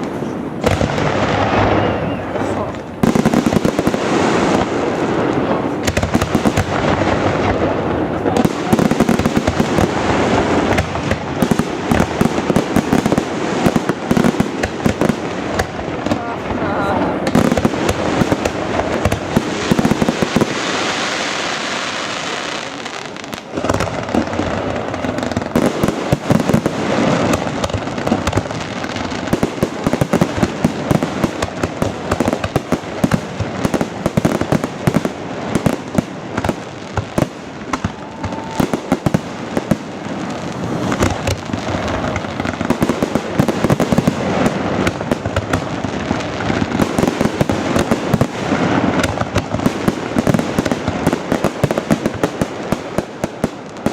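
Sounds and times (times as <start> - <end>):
fireworks bangs and crackling: 0.0 - 53.9
fireworks hissing: 0.0 - 53.9.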